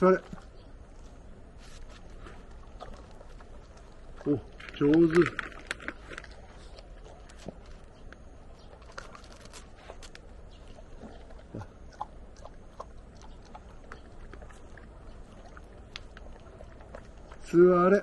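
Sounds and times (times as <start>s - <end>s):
low steady rumble: 0.0s - 18.0s
dogs chewing treats: 1.6s - 18.0s.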